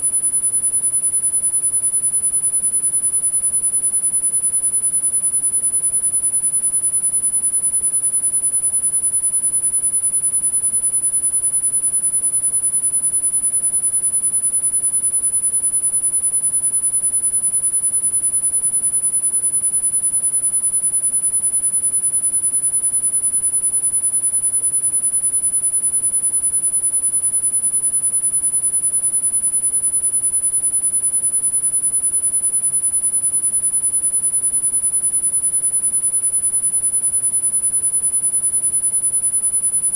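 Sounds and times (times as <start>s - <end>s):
high-pitched sine tone: 0.0s - 39.9s.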